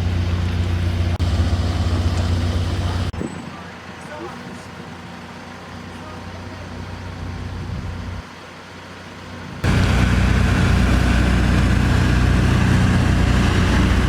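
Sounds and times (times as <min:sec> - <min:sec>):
heavy road-works machinery engine: 0:00.0 - 0:14.0.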